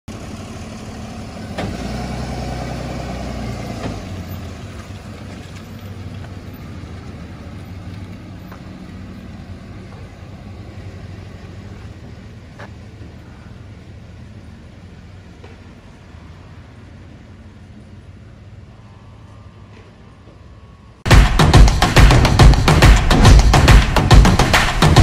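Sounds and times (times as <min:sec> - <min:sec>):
truck engine pulling away: 0:00.1 - 0:21.0.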